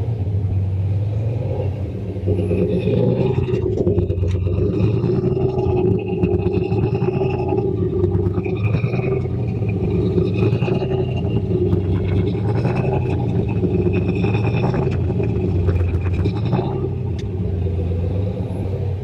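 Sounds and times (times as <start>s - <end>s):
engine exhaust rumble: 0.0s - 19.0s.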